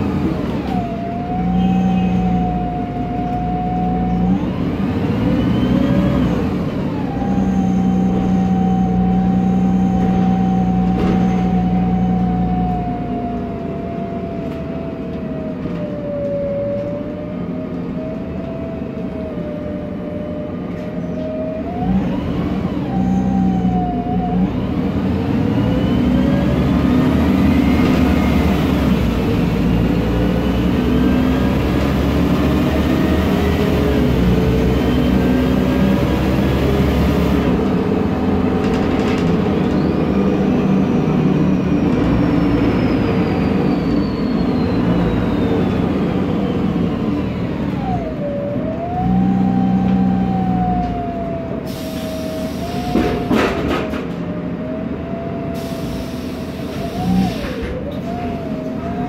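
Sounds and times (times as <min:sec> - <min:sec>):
bus engine running: 0:00.0 - 0:59.0
gearbox whine: 0:00.0 - 0:59.0.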